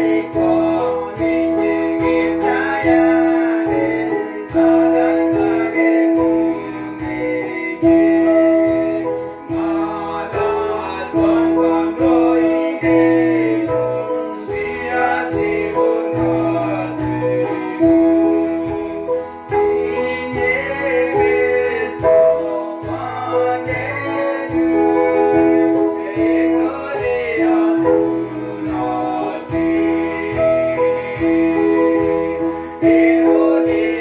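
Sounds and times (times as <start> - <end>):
bass line: 0.0 - 34.0
electric guitar: 0.0 - 34.0
electronic keyboard: 0.0 - 34.0
man singing: 0.0 - 34.0.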